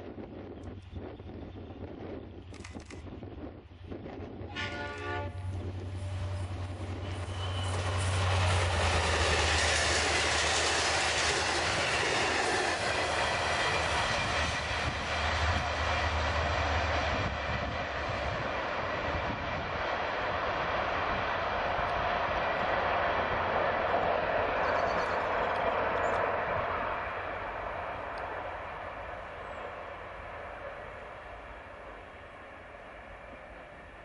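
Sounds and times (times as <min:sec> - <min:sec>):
diesel locomotive engine drone: 0:00.0 - 0:34.0
train wheels rolling over rails: 0:05.0 - 0:34.0.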